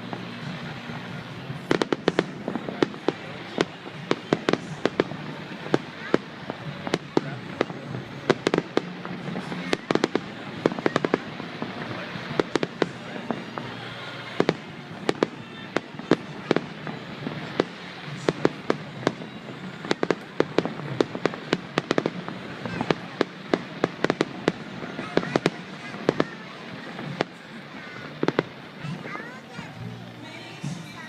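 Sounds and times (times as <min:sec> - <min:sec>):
fireworks bangs: 0:00.0 - 0:31.0
fireworks rumble: 0:00.0 - 0:31.0.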